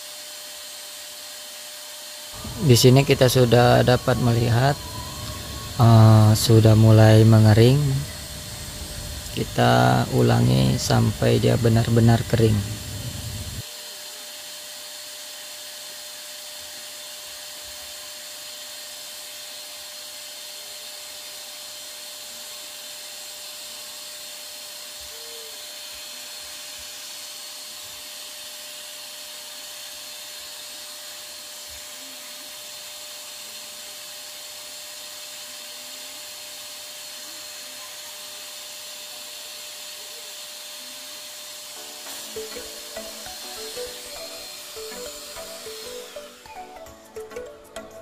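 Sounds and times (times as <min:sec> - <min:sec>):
handheld vacuum cleaner running: 0:00.0 - 0:48.0.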